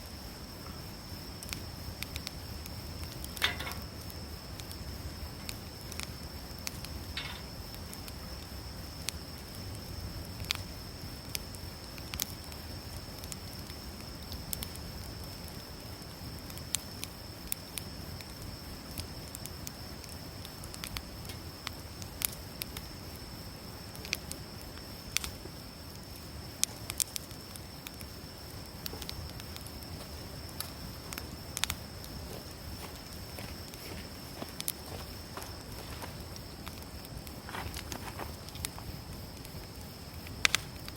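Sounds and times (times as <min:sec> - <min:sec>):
campfire crackling and popping: 0:00.0 - 0:40.9
low rumble of burning: 0:00.0 - 0:40.9.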